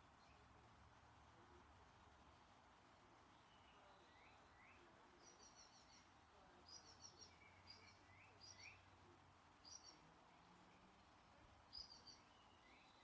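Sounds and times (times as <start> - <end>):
soft outdoor hiss: 0.0 - 13.0.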